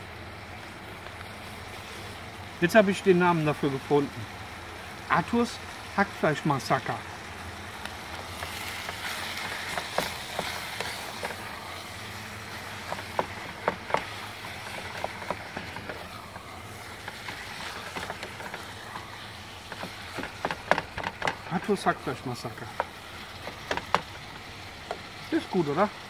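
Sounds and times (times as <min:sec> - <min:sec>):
meat sizzling in a pot: 0:00.0 - 0:26.0.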